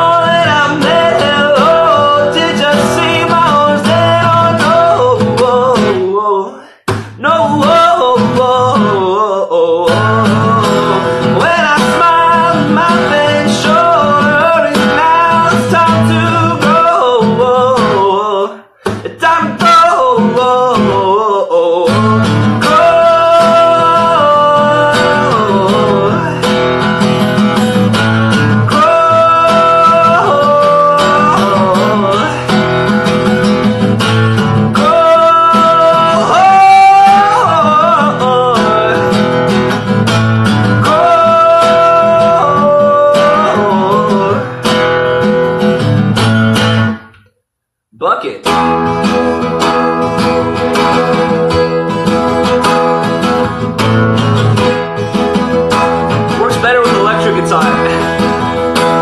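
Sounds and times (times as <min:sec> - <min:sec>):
man singing: 0:00.0 - 0:45.6, 0:48.0 - 0:59.0
strummed acoustic guitar: 0:00.0 - 0:47.3, 0:48.0 - 0:59.0.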